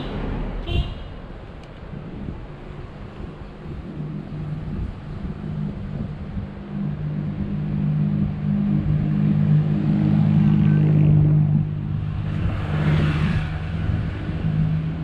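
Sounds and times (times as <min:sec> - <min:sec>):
engine humming: 0:00.0 - 0:15.0
rushing noise: 0:01.2 - 0:15.0.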